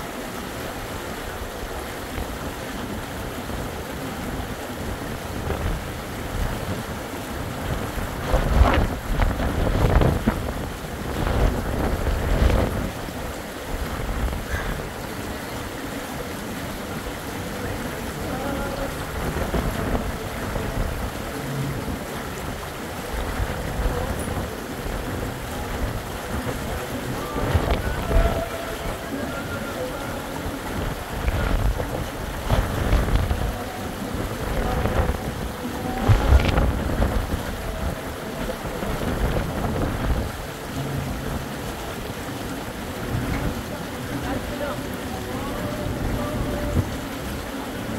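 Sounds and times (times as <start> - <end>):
faint voices: 0.0 - 47.9
wind buffeting microphone: 0.0 - 47.9.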